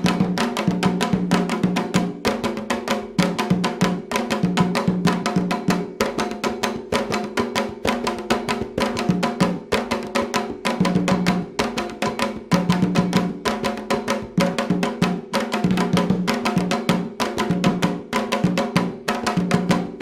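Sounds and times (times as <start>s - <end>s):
drums: 0.0s - 20.0s
wood block percussion: 0.0s - 20.0s.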